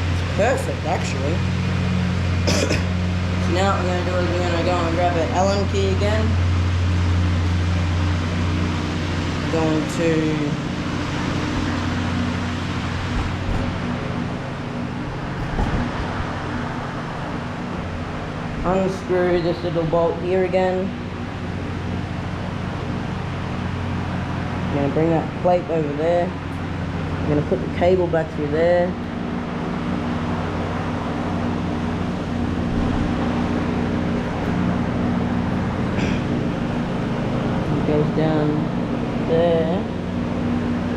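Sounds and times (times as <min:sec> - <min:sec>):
mechanical hum: 0:00.0 - 0:40.9
noisy rush: 0:00.0 - 0:40.9.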